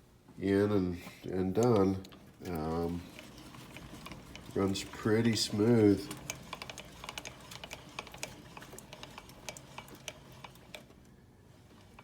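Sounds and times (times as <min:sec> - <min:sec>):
gear clicking along a rack: 0:01.0 - 0:12.0.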